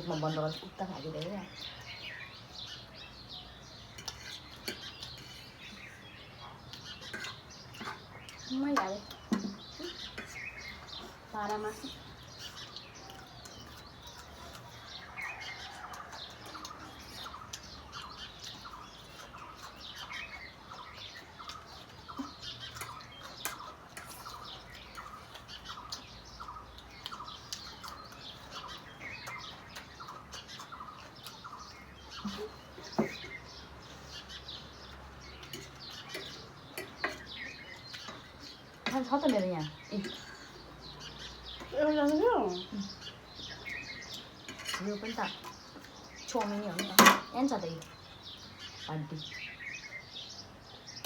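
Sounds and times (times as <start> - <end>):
bird chirping: 0.0 - 51.0.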